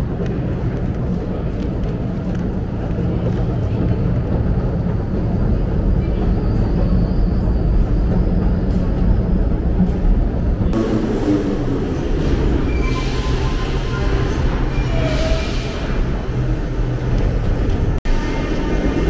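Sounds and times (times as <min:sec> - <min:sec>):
station platform with train: 0:00.0 - 0:19.0.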